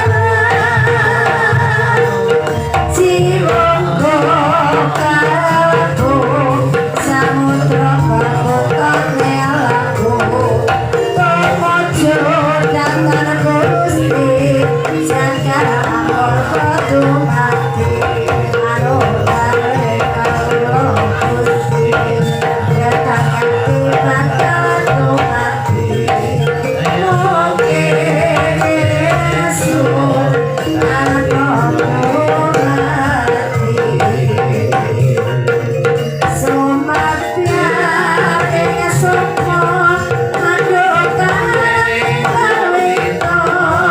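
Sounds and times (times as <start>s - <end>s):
gamelan music: 0.0s - 43.9s
hand drums: 0.0s - 43.9s.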